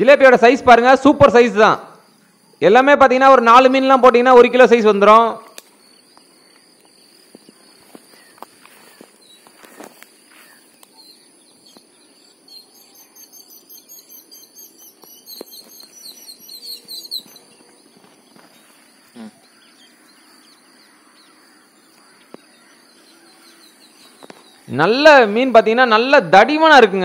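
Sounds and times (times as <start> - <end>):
birds chirping in trills: 0.0 - 27.0.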